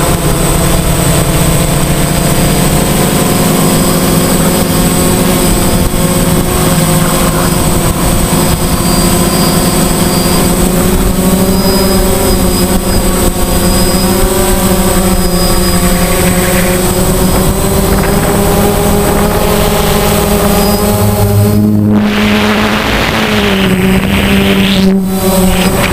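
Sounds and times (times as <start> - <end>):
drone motors buzzing: 0.0 - 25.9.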